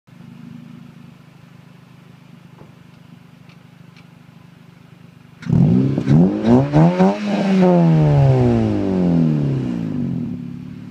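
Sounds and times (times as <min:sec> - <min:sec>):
car engine idling and revving: 0:00.1 - 0:10.9.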